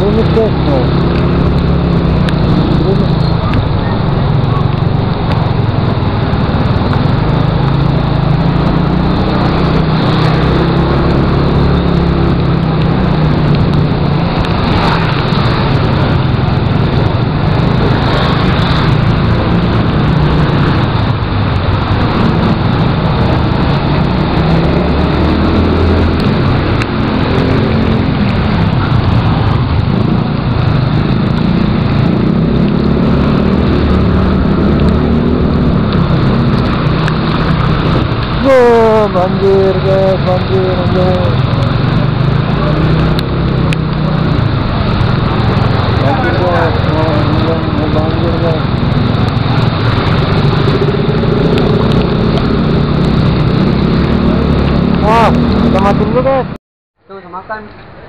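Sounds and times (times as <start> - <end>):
motorcycle engine running: 0.0 - 56.5
wind and road noise: 0.0 - 58.0.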